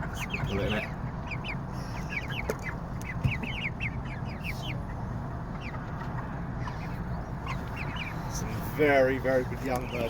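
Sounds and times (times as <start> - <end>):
chicks cheeping: 0.0 - 10.0
steady low hum: 0.0 - 10.0.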